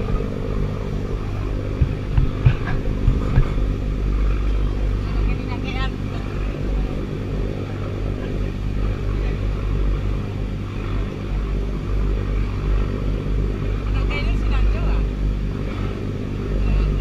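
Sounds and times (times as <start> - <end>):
boat engine droning: 0.0 - 17.0
wind: 0.0 - 17.0.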